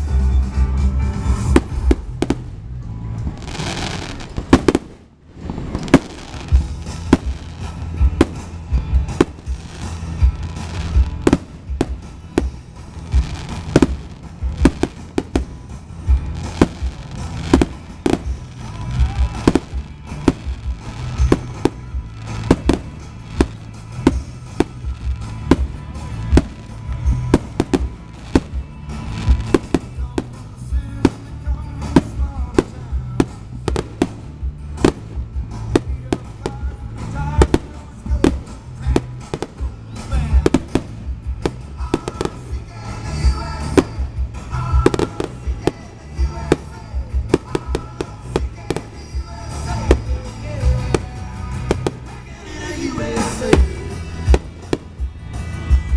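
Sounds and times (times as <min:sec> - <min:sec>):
fireworks bursting with sharp bangs: 0:01.2 - 0:55.9.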